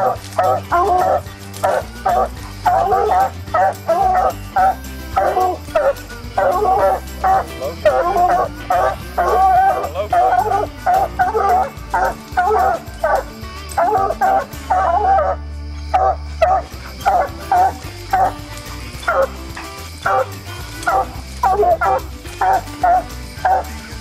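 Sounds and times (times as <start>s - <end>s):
hounds barking: 0.0s - 24.0s.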